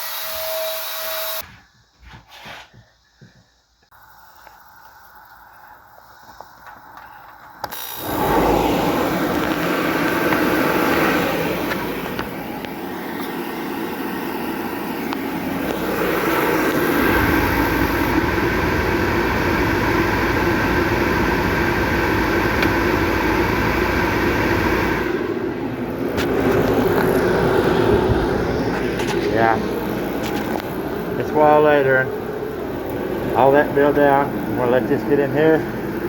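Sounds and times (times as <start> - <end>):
spray equipment humming: 4.0 - 36.0.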